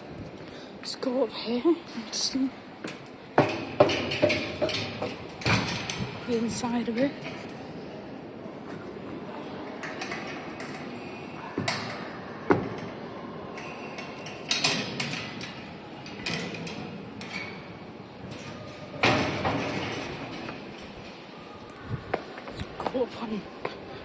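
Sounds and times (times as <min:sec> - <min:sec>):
background hubbub: 0:00.0 - 0:24.0
knocks and bangs echoing in a hall: 0:02.8 - 0:24.0.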